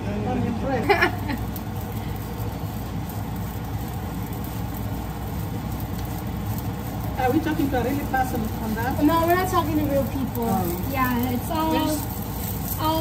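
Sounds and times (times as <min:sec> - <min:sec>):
flatbread frying hiss: 0:00.1 - 0:13.0.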